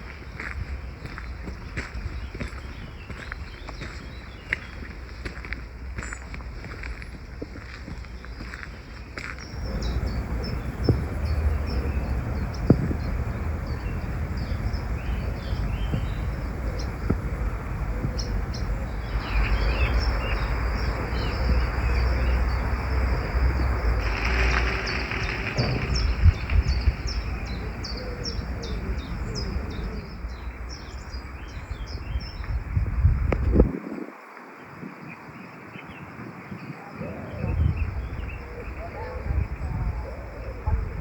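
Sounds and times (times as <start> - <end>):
small songbirds chirping: 0.0 - 33.6, 34.2 - 41.0.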